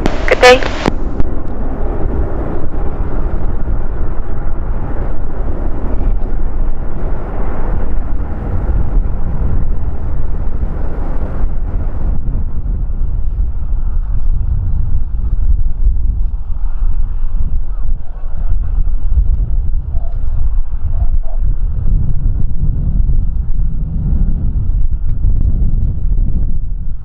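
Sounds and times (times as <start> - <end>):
jet engine noise: 0.0 - 27.0
wind rumbling on microphone: 0.0 - 27.0.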